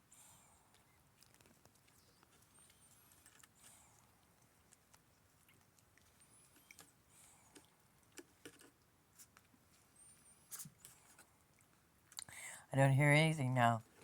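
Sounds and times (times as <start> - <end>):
small clicks and rustles: 0.6 - 12.3.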